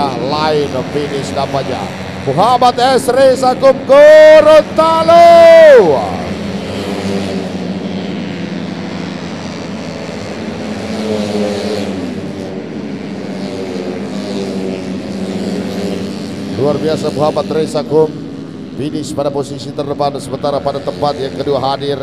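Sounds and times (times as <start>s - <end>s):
scooter engines buzzing past: 0.0s - 22.0s.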